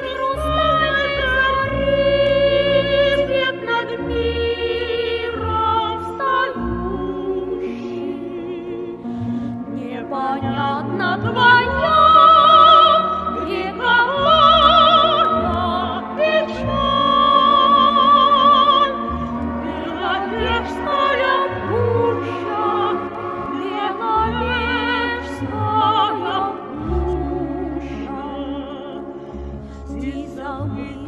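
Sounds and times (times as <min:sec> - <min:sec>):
instrumental accompaniment: 0:00.0 - 0:31.0
operatic singing: 0:00.0 - 0:31.0.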